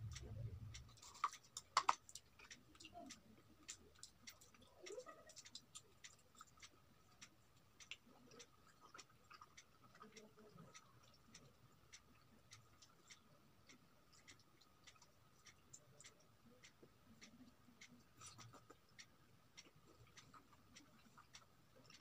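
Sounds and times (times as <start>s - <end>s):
mouth chewing clicks: 0.0s - 22.0s.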